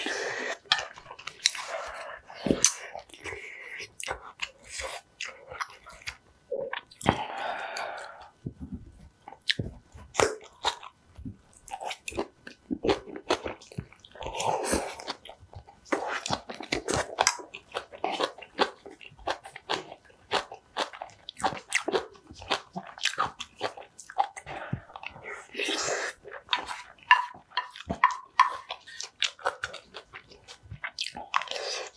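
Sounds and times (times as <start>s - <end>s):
person chewing and crunching: 0.0s - 31.9s.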